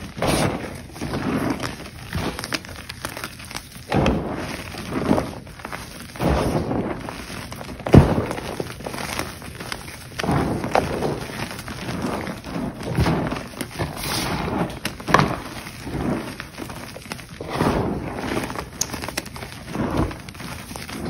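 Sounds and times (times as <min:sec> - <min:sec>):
chalk crunching and crumbling: 0:00.0 - 0:21.0.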